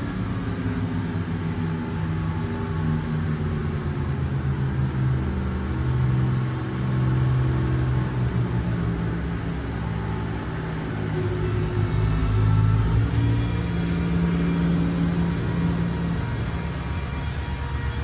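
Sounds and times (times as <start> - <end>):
boat engines droning: 0.0 - 18.0.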